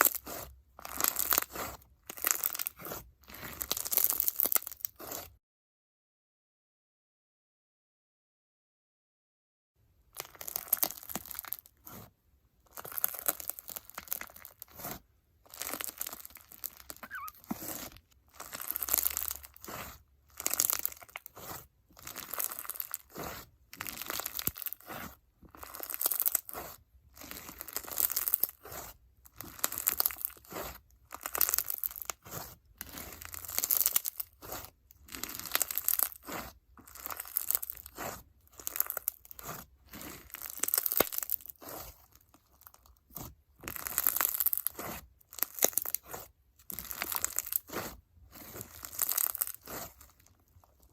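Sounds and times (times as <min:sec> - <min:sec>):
crunchy slime squished by hands: 0:00.0 - 0:05.4, 0:10.1 - 0:50.9.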